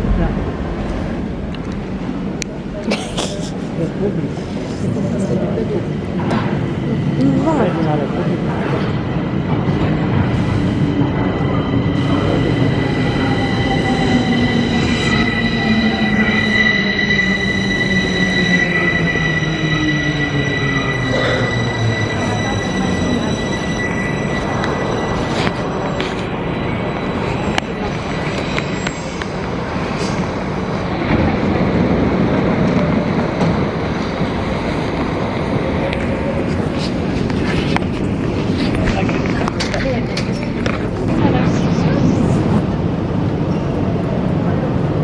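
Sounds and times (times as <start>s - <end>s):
metro train rumbling: 0.0s - 45.0s
high squeal of train: 3.5s - 45.0s.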